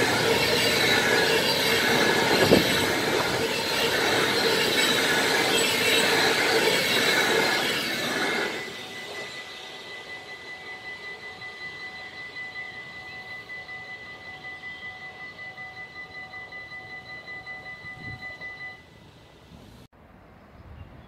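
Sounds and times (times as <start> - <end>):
wheel squeal: 0.0 - 18.8
train rolling on rails: 0.0 - 19.9.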